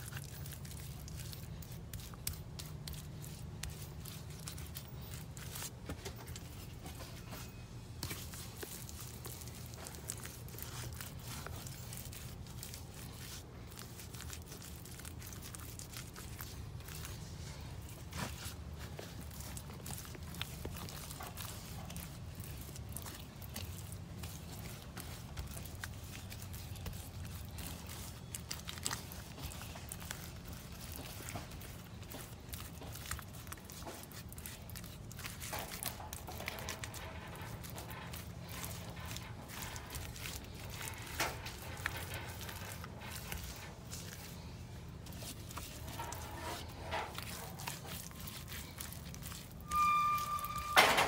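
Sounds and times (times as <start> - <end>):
scraping and crinkling handling noises: 0.0 - 51.0.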